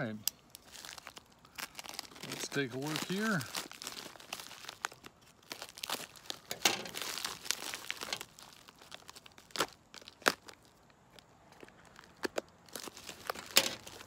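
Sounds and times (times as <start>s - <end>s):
rustling and sharp crackles: 0.4s - 14.0s
plastic mailer crinkling: 0.6s - 14.0s.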